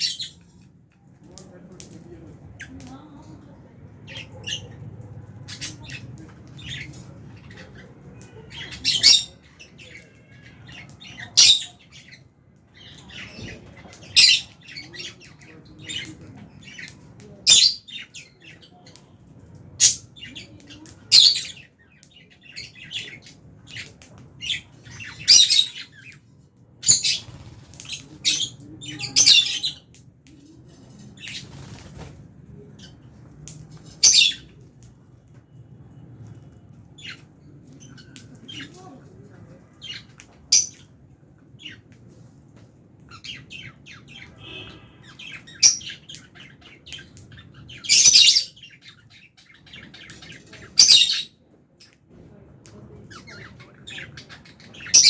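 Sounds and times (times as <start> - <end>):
lovebirds squawking and chirping: 0.0 - 0.7, 4.0 - 30.0, 30.6 - 34.6, 36.9 - 41.0, 41.6 - 42.2, 43.0 - 51.4, 52.9 - 55.0.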